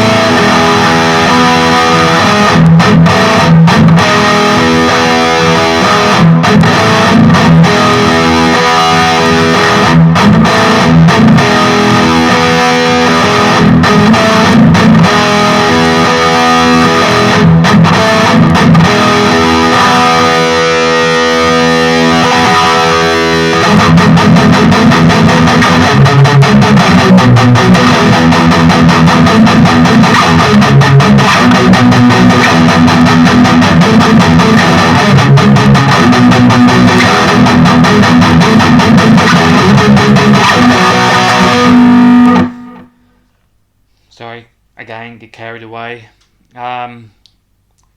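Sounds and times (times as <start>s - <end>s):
distorted electric guitar: 0.0s - 43.5s.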